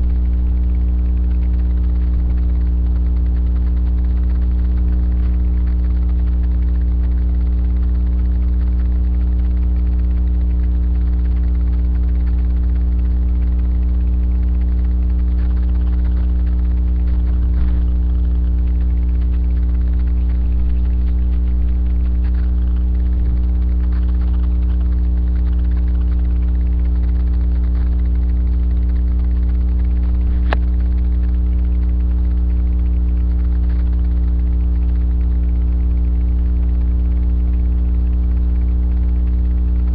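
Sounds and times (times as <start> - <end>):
loud electrical mains hum: 0.0 - 39.9.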